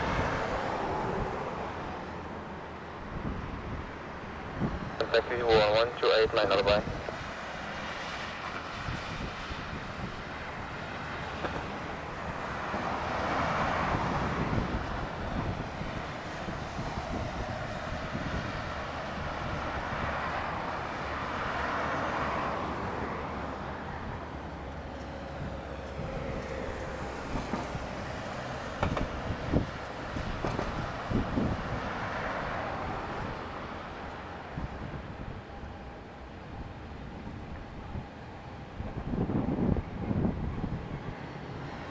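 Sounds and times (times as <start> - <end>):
distant jet engine rush: 0.0 - 41.9.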